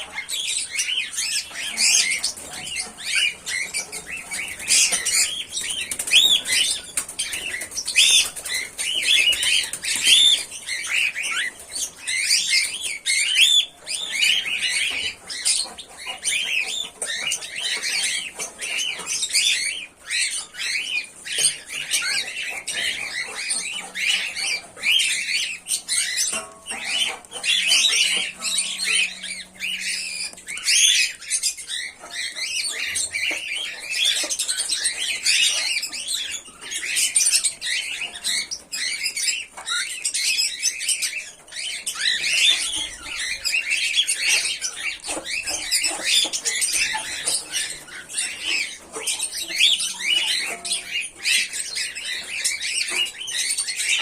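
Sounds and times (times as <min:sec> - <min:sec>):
cockatiels chirping and squawking: 0:00.0 - 0:54.0.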